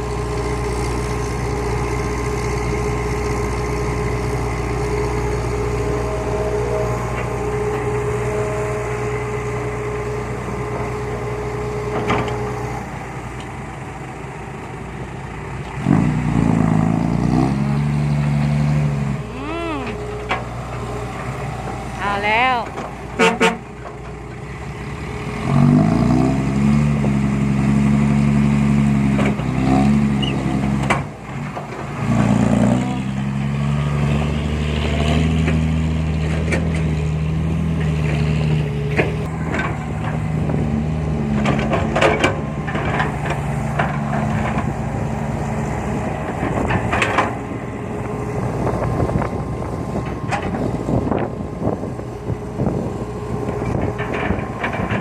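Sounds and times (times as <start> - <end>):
heavy diesel engine revving: 0.0 - 23.7, 24.4 - 55.0.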